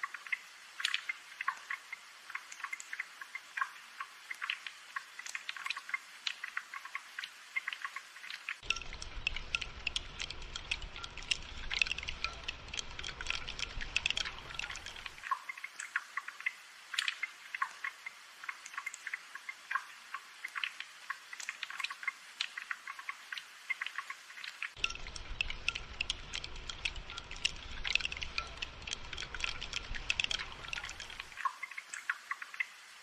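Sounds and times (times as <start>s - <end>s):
rain dripping: 0.0s - 33.0s.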